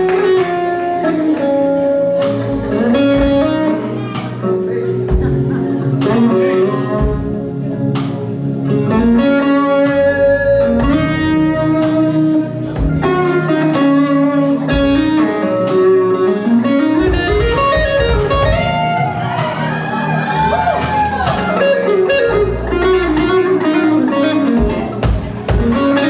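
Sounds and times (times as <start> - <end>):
band playing: 0.0 - 26.0
electric guitar solo: 0.0 - 26.0.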